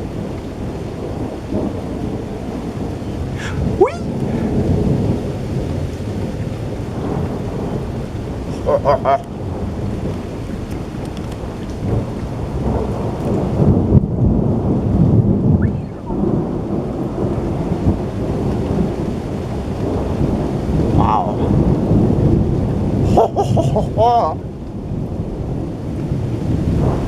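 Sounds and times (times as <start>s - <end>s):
rain hissing: 0.0s - 27.0s
thunder rumbling: 0.0s - 27.0s.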